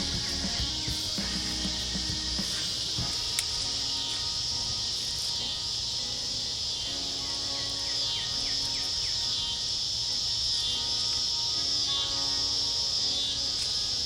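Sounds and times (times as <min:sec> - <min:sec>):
insects buzzing in pulses: 0:00.0 - 0:14.0
soft background music: 0:00.0 - 0:14.0.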